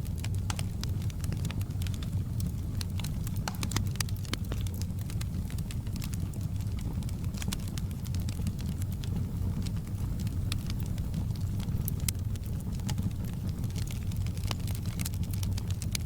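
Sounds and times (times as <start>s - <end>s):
fire crackling in fireplace: 0.0s - 16.0s.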